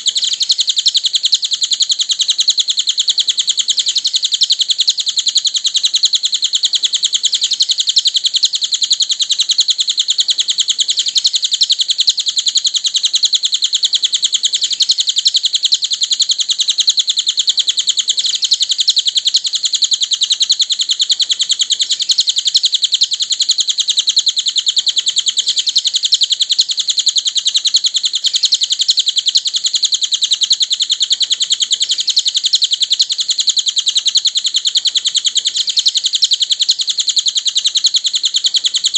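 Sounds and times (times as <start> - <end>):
songbird chirping rapidly: 0.0 - 38.9.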